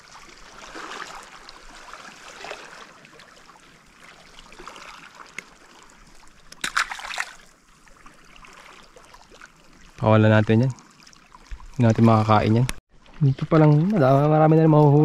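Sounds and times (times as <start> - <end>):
seawater trickling over rocks: 0.0 - 14.8
sharp clicks and splashes: 0.6 - 14.1.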